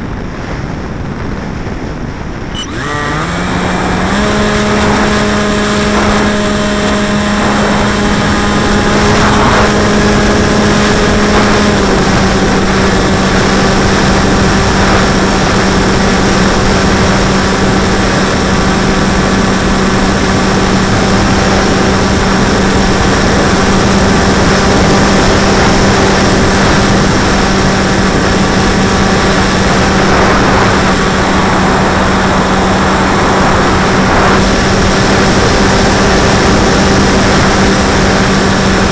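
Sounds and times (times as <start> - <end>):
wind rush: 0.0 - 38.9
electric motor and propeller whine: 1.6 - 38.9.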